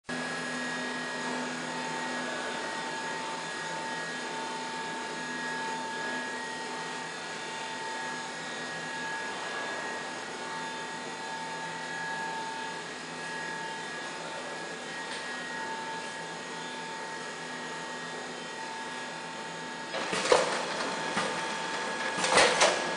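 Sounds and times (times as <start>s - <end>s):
wrapping machine whirring: 0.1s - 22.9s.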